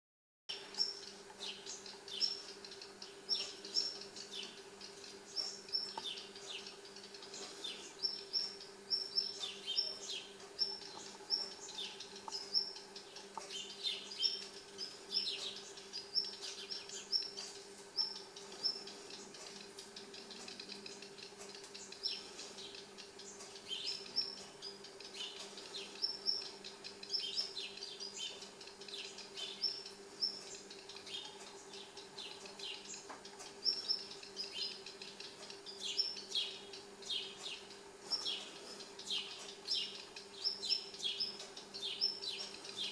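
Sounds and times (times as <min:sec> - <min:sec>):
small birds chirping: 0:00.5 - 0:42.9.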